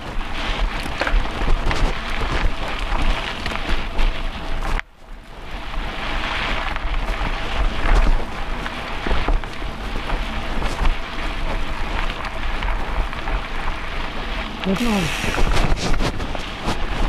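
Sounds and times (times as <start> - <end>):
bike clicks and rattles: 0.0 - 17.0
bike tyres on dirt: 0.0 - 17.0
wind on microphone: 0.0 - 17.0.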